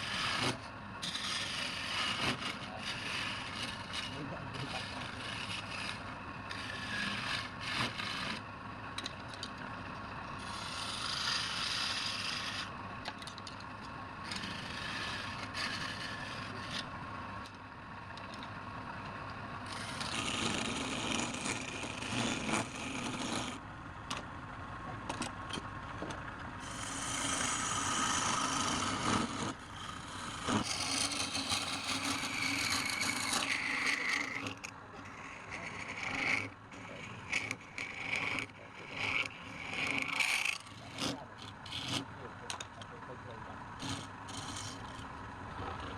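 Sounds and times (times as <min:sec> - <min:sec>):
lathe tool scraping spinning wood: 0:00.0 - 0:23.6, 0:26.6 - 0:45.9.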